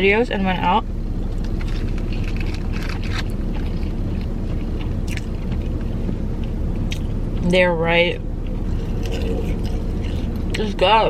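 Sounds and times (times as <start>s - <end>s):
low hum inside a car: 0.0s - 11.0s
chewing and crunching: 1.2s - 7.5s, 8.4s - 11.0s.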